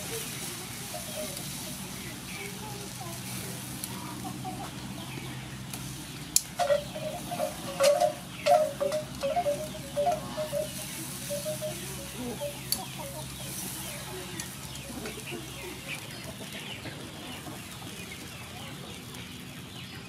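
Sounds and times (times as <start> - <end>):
chicken clucking: 0.0 - 20.0.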